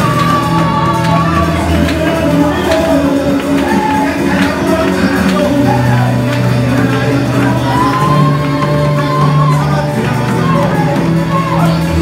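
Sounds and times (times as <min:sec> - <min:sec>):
gospel band playing: 0:00.0 - 0:12.0
man singing through microphone: 0:00.0 - 0:12.0.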